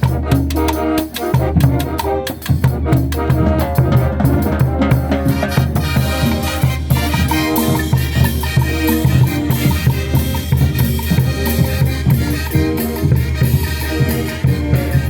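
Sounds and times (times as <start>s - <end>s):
drums and percussion: 0.0s - 15.0s
latin band music: 0.0s - 15.0s.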